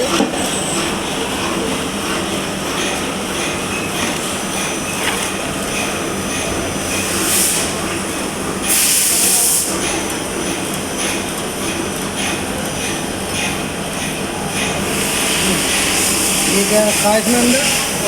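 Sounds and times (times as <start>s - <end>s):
band saw running: 0.0s - 18.0s.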